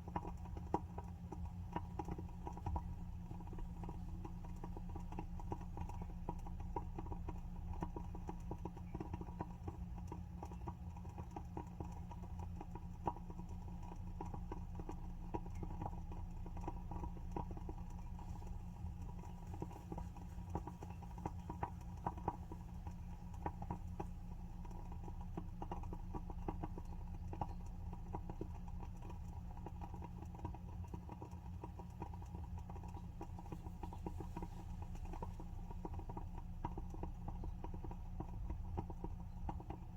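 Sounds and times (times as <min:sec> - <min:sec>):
steady low hum: 0:00.0 - 0:39.9
candle wick crackling: 0:00.1 - 0:10.8, 0:11.4 - 0:39.9.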